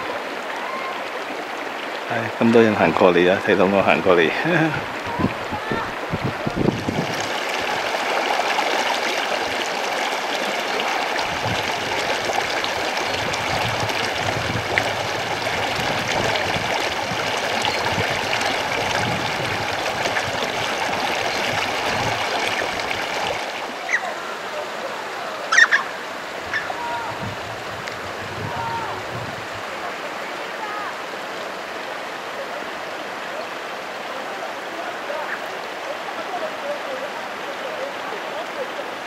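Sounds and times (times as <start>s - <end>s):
mountain stream rushing: 0.0s - 39.0s.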